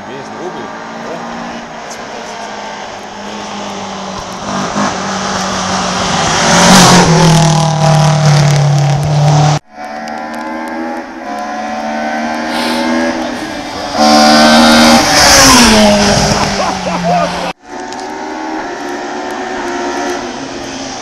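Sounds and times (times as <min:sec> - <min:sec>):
rally car approaching: 0:00.0 - 0:21.0.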